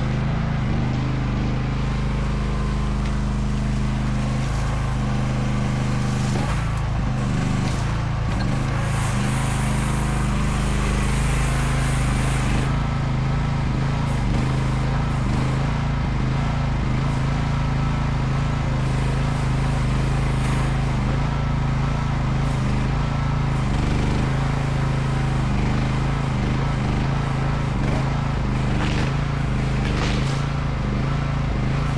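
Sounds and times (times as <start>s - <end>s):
excavator engine droning: 0.0s - 31.9s.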